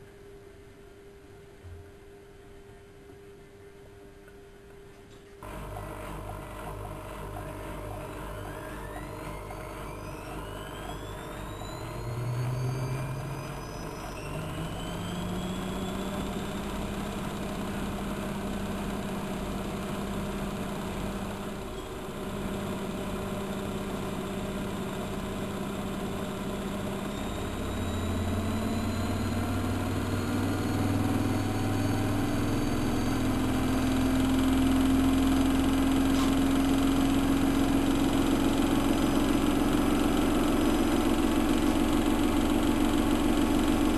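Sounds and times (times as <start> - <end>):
washing machine spinning: 5.4 - 43.9.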